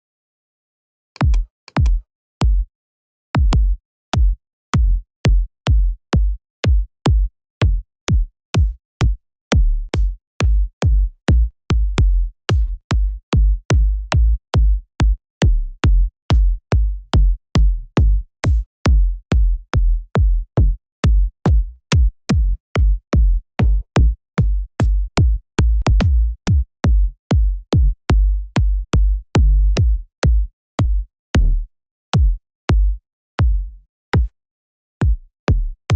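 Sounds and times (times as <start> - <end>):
electronic kick drum samples: 1.2 - 2.7, 3.4 - 34.3, 35.0 - 35.8.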